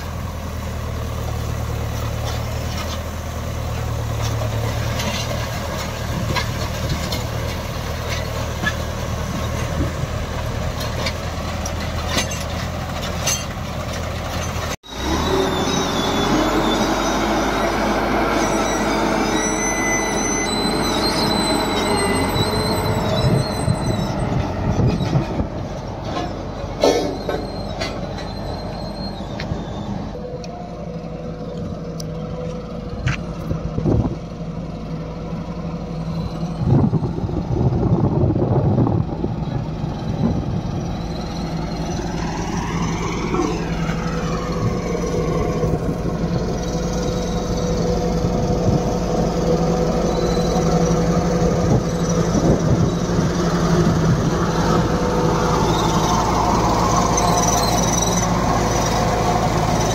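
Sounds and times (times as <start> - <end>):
road roller diesel engine rumble: 0.0 - 59.9.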